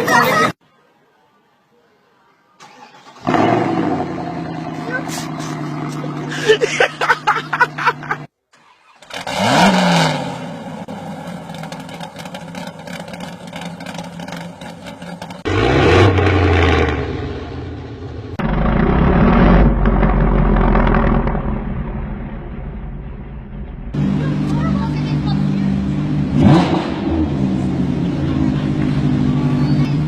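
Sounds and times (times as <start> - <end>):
loud car engine revving: 3.2 - 6.5, 9.0 - 30.0.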